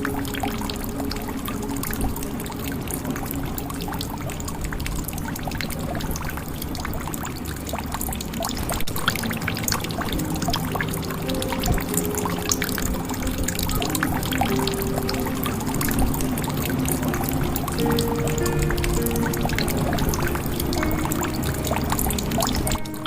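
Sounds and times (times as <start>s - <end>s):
water pouring into a jug: 0.0s - 23.0s.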